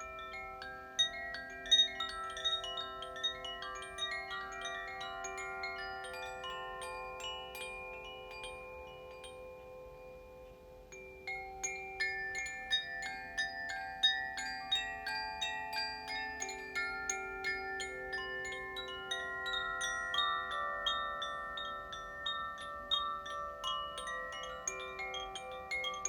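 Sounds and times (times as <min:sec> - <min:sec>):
wind chimes ringing: 0:00.0 - 0:26.0.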